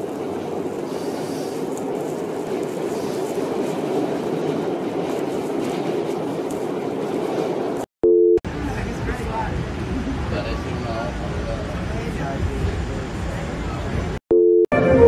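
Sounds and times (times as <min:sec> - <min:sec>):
subway train running: 0:00.0 - 0:07.9, 0:08.5 - 0:14.2.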